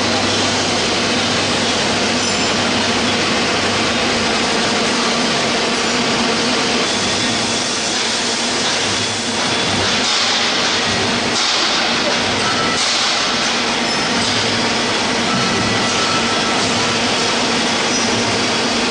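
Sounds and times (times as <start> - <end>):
machine whirring and humming: 0.0 - 18.9.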